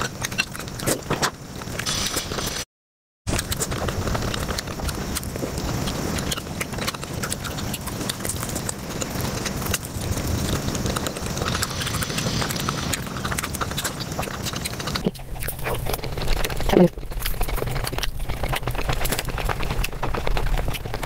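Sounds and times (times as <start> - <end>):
sped-up chewing and mouth noises: 0.0 - 2.0, 3.3 - 21.0.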